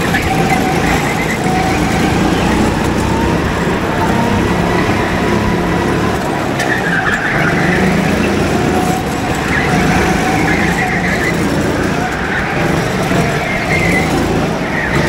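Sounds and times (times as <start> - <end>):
go-kart engines running: 0.0 - 15.0
rising and falling squeal: 0.0 - 15.0.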